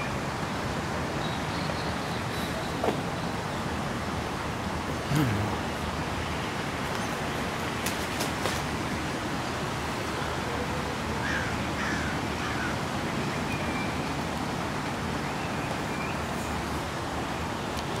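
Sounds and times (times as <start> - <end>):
background noise: 0.0 - 18.0.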